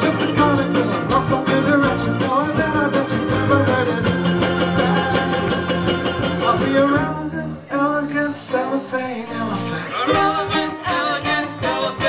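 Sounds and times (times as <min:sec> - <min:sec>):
live pop band playing: 0:00.0 - 0:12.0.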